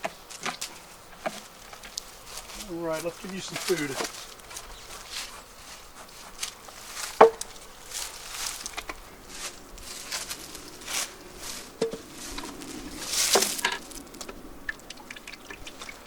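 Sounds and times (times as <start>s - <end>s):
beehive parts knocking and scraping: 0.0s - 14.4s.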